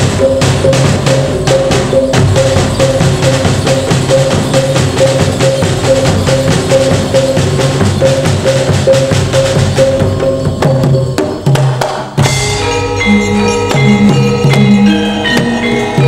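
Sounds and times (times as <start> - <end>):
gamelan ensemble playing: 0.0 - 16.0
rapid drumming: 0.0 - 16.0.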